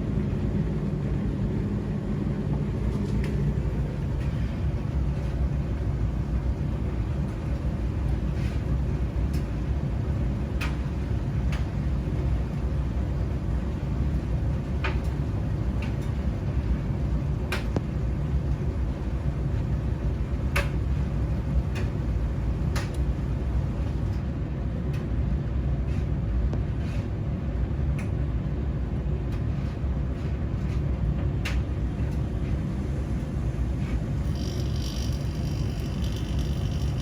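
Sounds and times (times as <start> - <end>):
washing machines and dryers running: 0.0 - 37.0.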